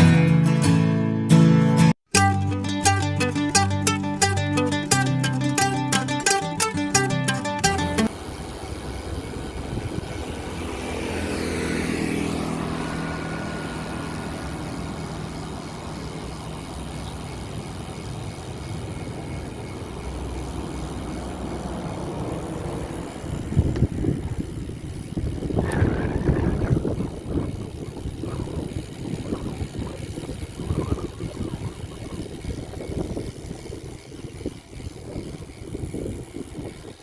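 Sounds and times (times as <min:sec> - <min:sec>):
engine running steadily: 0:04.3 - 0:36.9.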